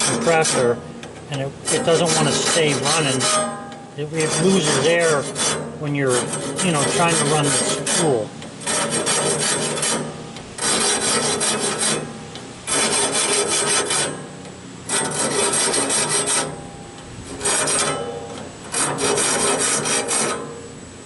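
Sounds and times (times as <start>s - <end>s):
air grinder grinding steel: 0.0s - 20.6s
thin high whine: 0.0s - 21.0s.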